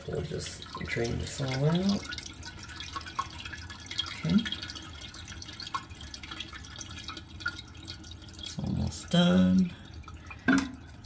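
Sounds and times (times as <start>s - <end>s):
water trickling into toilet bowl: 0.0s - 11.0s.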